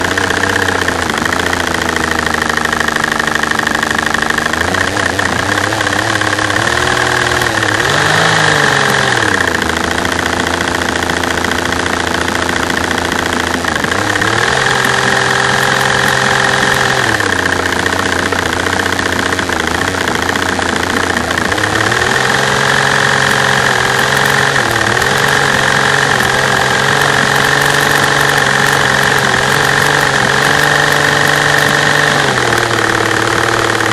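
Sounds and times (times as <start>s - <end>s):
fuel injectors tapping: 0.0s - 33.9s
misfiring engine revving: 0.0s - 33.9s.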